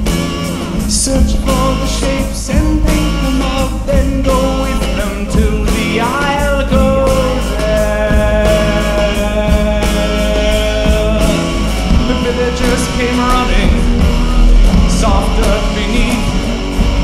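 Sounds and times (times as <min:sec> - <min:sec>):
rock song with bass and drums: 0:00.0 - 0:17.0.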